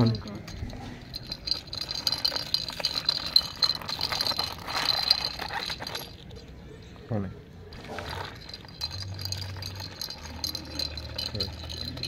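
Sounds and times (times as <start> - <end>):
plastic toy rattling on floor: 0.0 - 6.5, 7.8 - 12.0
high ringing jingle: 0.0 - 6.6, 8.1 - 12.0.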